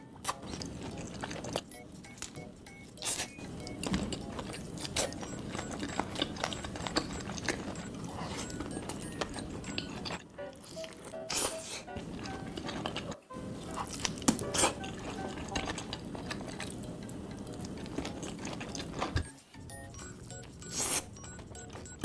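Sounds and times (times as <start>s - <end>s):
crunchy chewing: 0.2s - 22.0s.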